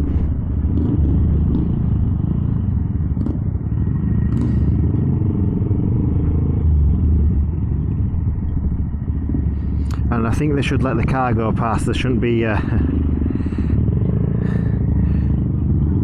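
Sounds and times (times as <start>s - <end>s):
minibike engine low rumble: 0.0s - 16.0s.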